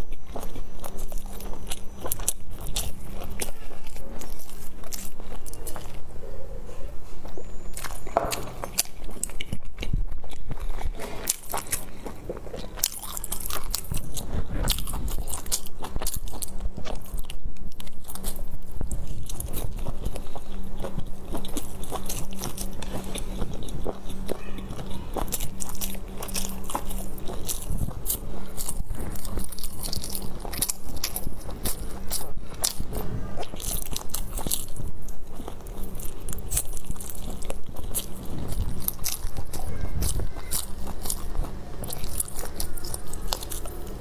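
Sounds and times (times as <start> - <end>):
crunchy bites: 0.0 - 6.2, 7.2 - 44.0
chewing and biting: 0.0 - 44.0.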